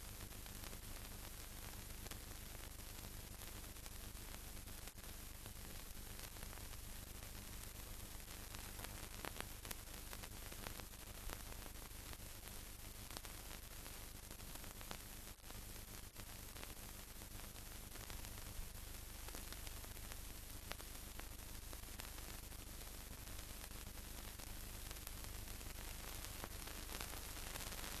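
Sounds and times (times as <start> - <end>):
steady hiss: 1.8 - 28.0.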